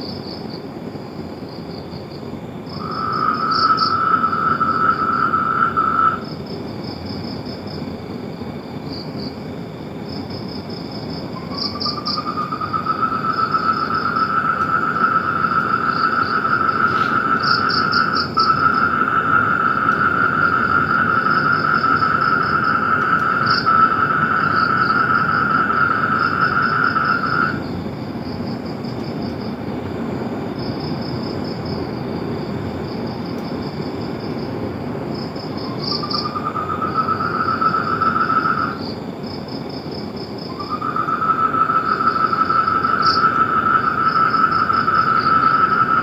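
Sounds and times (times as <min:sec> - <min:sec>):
low continuous insect trill: 0:00.0 - 0:46.0
high rapidly pulsing insect trill: 0:01.4 - 0:29.8, 0:30.4 - 0:46.0.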